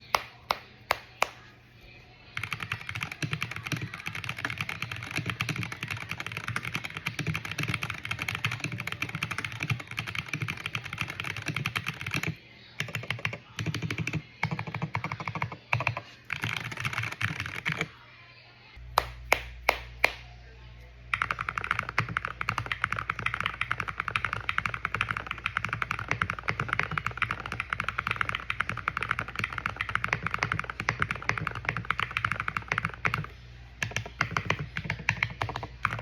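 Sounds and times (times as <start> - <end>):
mechanical keyboard typing: 2.4 - 17.9, 21.1 - 36.0.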